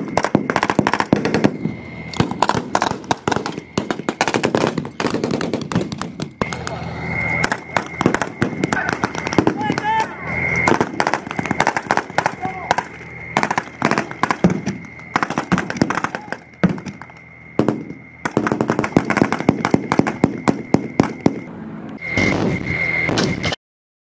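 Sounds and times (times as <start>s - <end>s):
rapid rifle gunfire: 0.0s - 1.6s, 2.2s - 6.6s, 7.4s - 10.1s, 10.7s - 21.4s
high ringing tone: 0.0s - 23.6s
pyrotechnic explosion: 0.0s - 23.6s.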